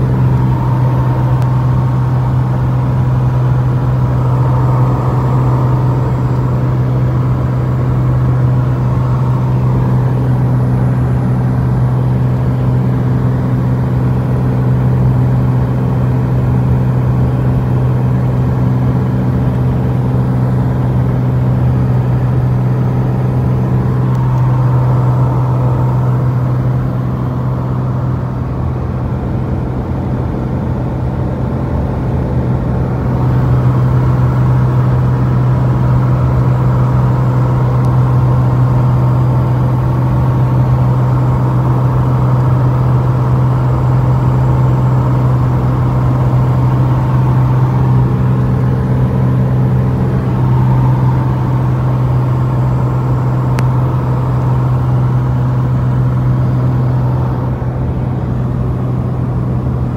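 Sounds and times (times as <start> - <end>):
aircraft engine and propeller droning: 0.0 - 59.9.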